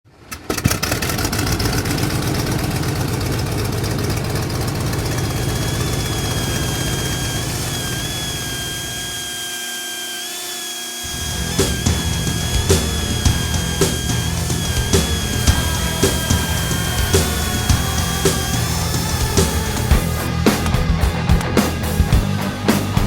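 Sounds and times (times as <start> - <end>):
machine rattling and rumbling: 0.1 - 9.3, 11.1 - 22.7
steady high whine: 1.6 - 23.0.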